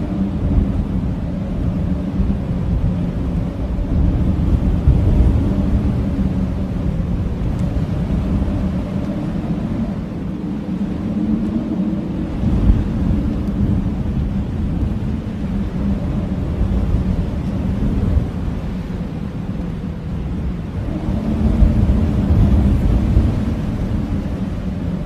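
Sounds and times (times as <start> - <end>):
blizzard wind howling: 0.0 - 25.0.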